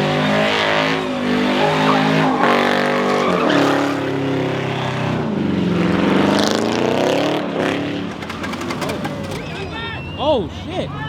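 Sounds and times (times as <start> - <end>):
tires squealing on pavement: 0.0 - 6.6, 7.6 - 11.0
car engine at high revs: 0.0 - 10.8.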